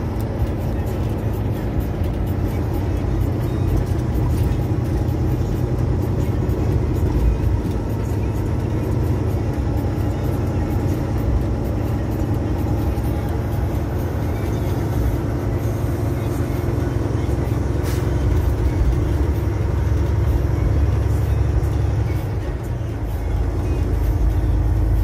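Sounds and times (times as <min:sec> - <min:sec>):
truck engine and tyre rumble: 0:00.0 - 0:25.0.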